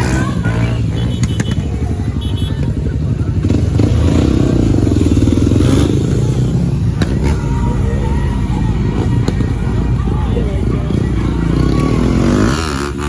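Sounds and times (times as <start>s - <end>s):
motorcycle engine running loudly: 0.0s - 13.0s.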